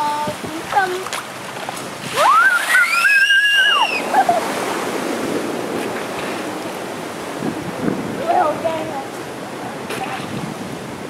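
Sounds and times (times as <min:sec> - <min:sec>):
surf breaking on shore: 0:00.0 - 0:11.0
wind blowing: 0:00.0 - 0:11.0.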